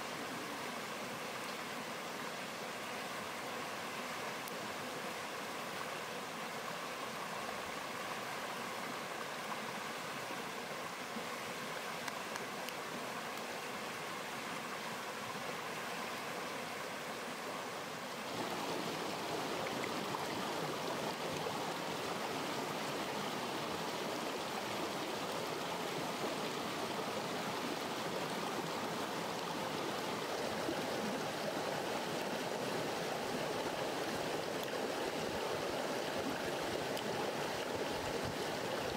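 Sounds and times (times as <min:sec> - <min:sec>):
stream water over stones: 0:00.0 - 0:38.9.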